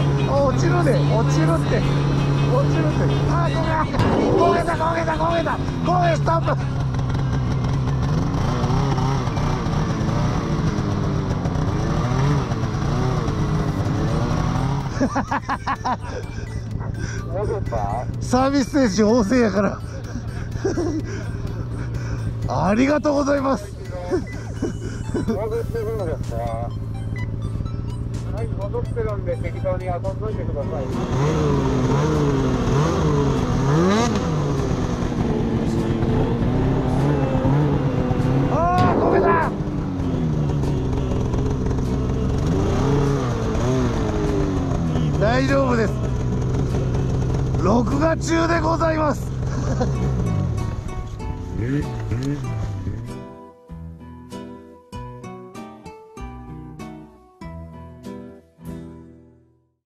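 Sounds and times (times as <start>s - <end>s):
snowmobile engine running: 0.0s - 51.0s.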